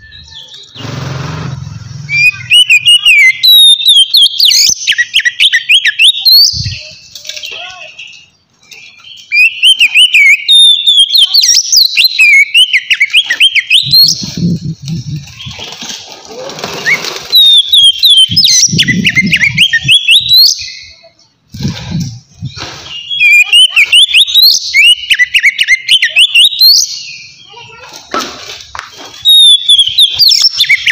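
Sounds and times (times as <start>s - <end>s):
bird singing whistled notes: 0.0s - 0.8s, 1.5s - 14.6s, 16.8s - 21.0s, 22.2s - 27.5s, 29.2s - 30.9s.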